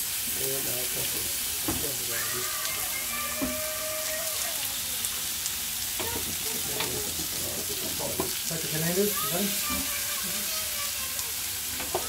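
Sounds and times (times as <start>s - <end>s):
meat sizzling on a hotplate: 0.0s - 12.0s.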